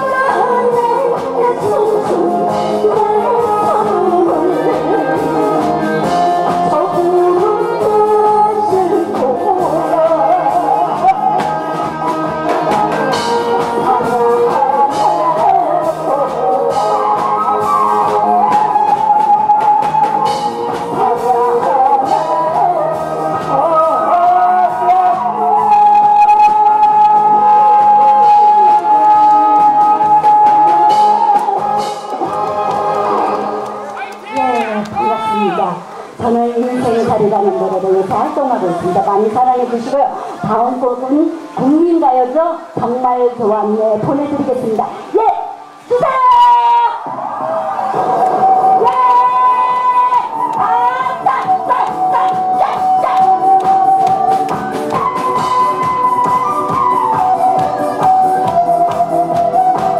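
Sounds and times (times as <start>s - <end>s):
woman singing into microphone: 0.0s - 33.9s, 34.7s - 47.2s, 48.0s - 59.9s
backing track with steady beat: 0.0s - 59.9s.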